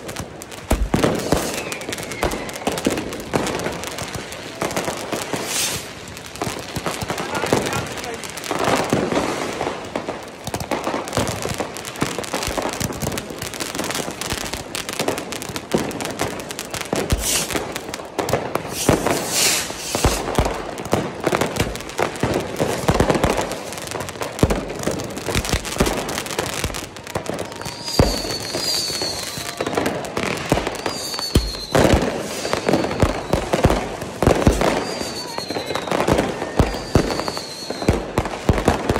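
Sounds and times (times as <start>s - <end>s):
fireworks bangs and crackling: 0.0s - 38.9s
fireworks falling whistles: 0.0s - 38.9s.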